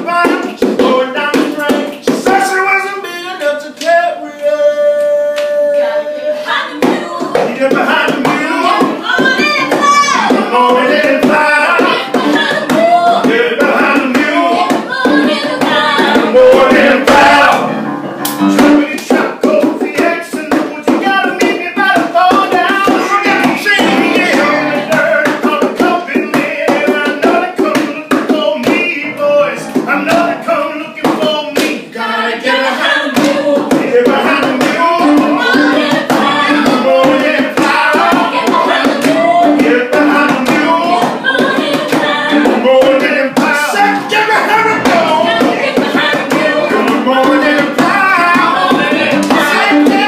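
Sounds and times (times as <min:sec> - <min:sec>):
sharp percussive taps: 0:00.0 - 0:02.8, 0:06.8 - 0:17.6, 0:18.2 - 0:29.0, 0:29.6 - 0:31.8, 0:33.1 - 0:50.0
voices singing: 0:00.0 - 0:50.0.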